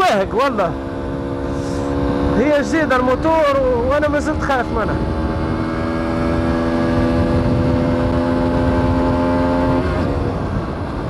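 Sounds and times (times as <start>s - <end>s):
motorcycle engine running: 0.0s - 11.0s
wind rumble on microphone: 1.2s - 11.0s.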